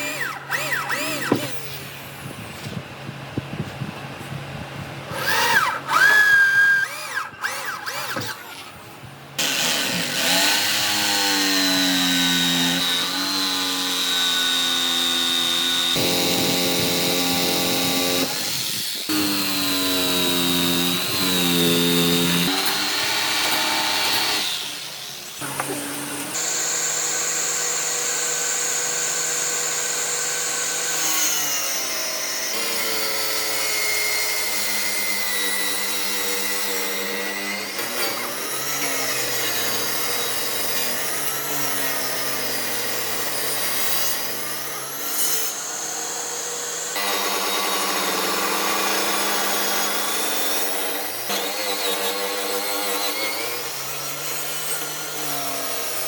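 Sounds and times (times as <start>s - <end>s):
power tools cutting wood: 0.0s - 2.8s, 5.1s - 56.0s.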